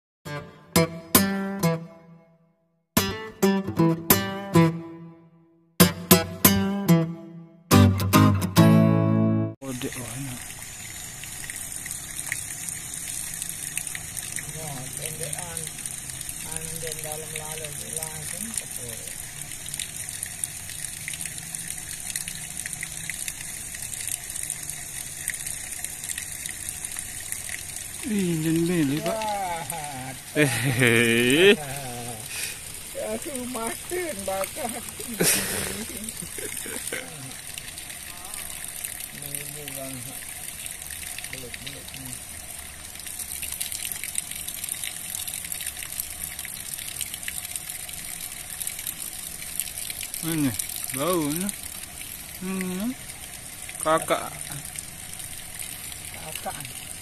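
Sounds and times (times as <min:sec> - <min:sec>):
water rushing down spillway: 0:09.6 - 0:57.0.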